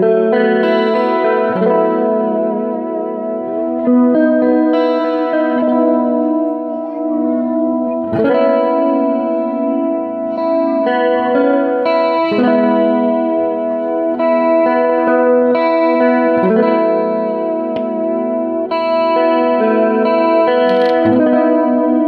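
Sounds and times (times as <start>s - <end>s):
clean electric guitar chords: 0.0s - 22.0s.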